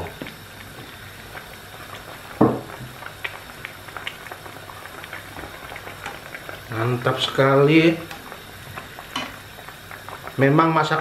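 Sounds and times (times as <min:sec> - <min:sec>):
broth bubbling in a pan: 0:00.0 - 0:11.0.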